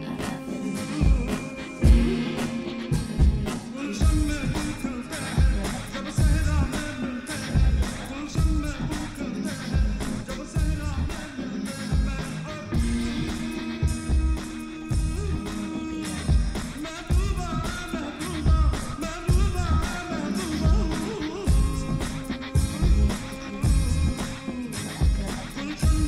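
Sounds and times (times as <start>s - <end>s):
singing over a heavy beat: 0.0s - 26.0s.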